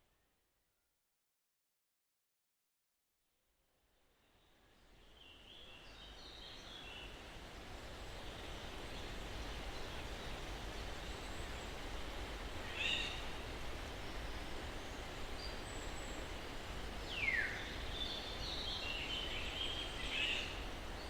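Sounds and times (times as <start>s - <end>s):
breeze through pine trees: 3.7s - 21.0s.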